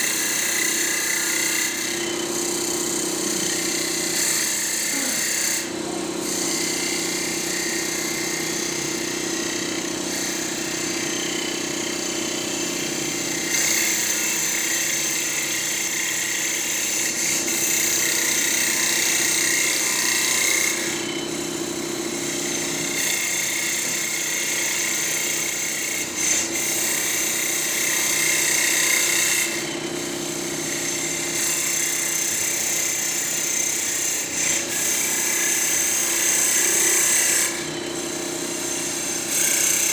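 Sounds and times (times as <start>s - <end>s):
lathe motor hum: 0.0s - 39.9s
wood lathe cutting wood: 0.0s - 39.9s.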